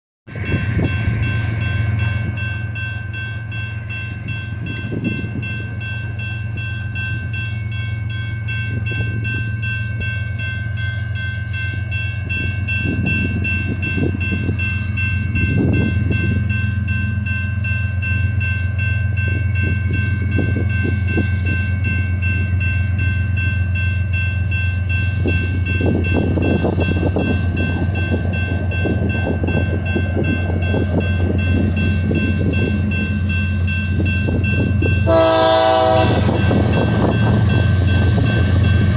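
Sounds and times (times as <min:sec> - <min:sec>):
deep locomotive engine drone: 0:00.2 - 0:38.9.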